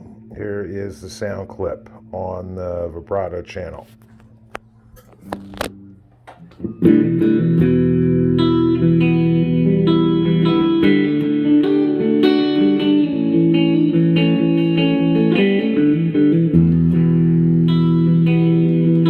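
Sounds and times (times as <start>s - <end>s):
electric guitar with vibrato: 0.0s - 19.0s.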